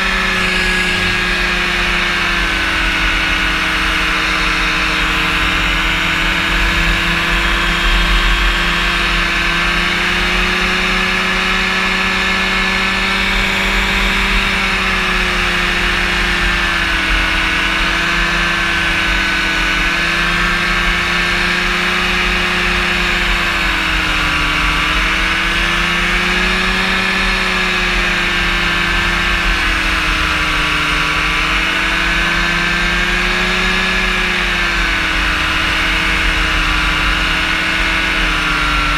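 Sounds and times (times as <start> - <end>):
engine and propeller drone: 0.0 - 38.9.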